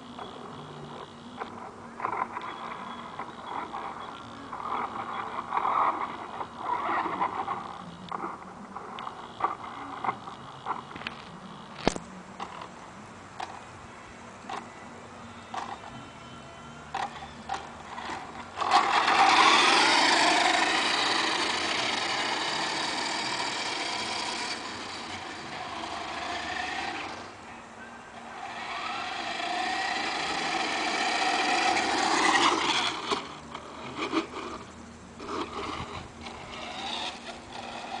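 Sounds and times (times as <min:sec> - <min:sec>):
motor whining: 0:00.0 - 0:12.7, 0:14.4 - 0:27.5, 0:28.1 - 0:38.0.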